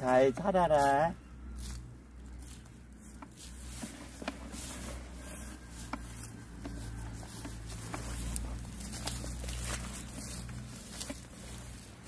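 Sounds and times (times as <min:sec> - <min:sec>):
feet moving in dry grass: 0:00.0 - 0:12.0
seeds being sown by hand: 0:00.0 - 0:12.0.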